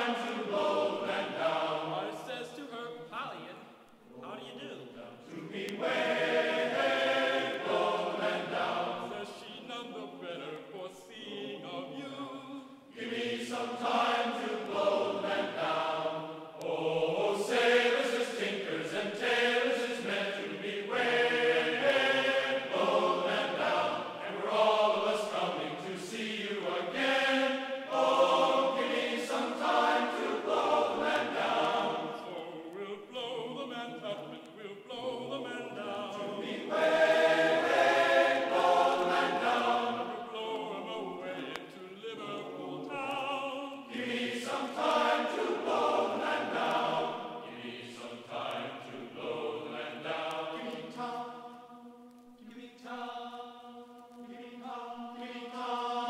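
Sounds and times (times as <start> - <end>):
group singing a sea shanty: 0.0 - 2.9, 4.0 - 56.0.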